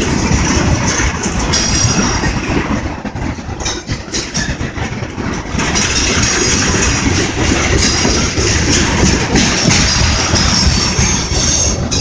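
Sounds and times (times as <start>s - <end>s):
freight train wheels rattling: 0.0s - 12.0s.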